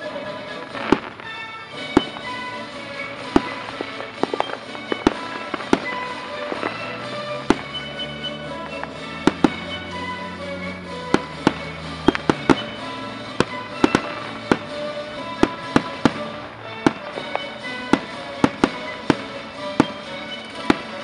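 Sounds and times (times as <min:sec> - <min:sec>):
music from radio: 0:00.0 - 0:21.0
firework shells bursting: 0:00.6 - 0:21.0.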